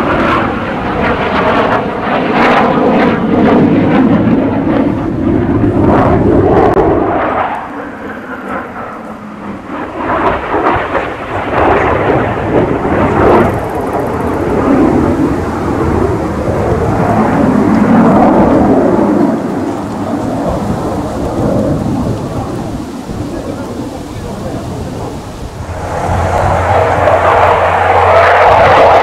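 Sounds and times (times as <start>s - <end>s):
jet engine rumbling overhead: 0.0s - 29.0s.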